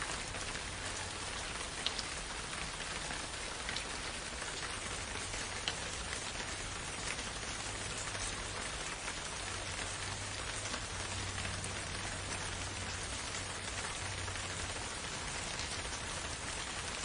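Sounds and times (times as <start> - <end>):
rain falling in a forest: 0.0 - 17.0
raindrops ticking: 0.0 - 17.0.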